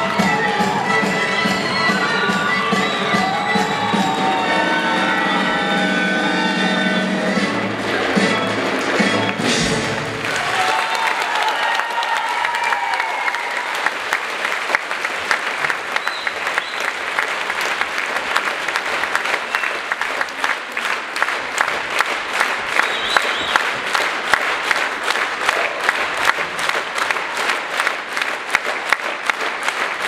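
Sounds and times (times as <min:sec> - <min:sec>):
audience applauding: 0:02.0 - 0:07.0, 0:07.7 - 0:30.0.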